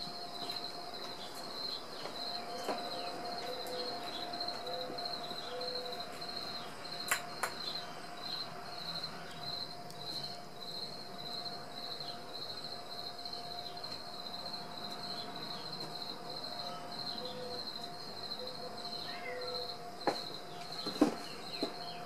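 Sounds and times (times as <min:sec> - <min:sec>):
insect chirping: 0:00.0 - 0:22.0
steady hum: 0:00.0 - 0:22.0.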